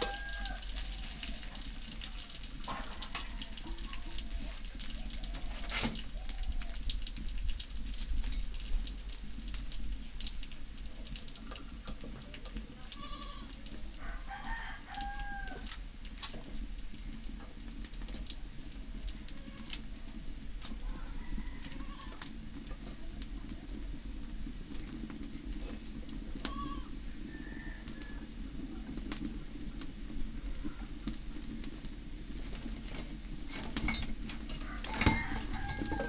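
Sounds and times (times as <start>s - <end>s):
garlic and chillies frying in oil: 0.0s - 36.0s.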